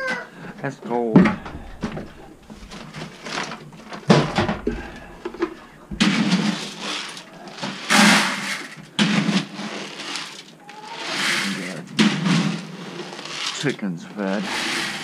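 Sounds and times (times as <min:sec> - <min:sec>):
feed pellets rustling and clattering: 0:00.4 - 0:15.0.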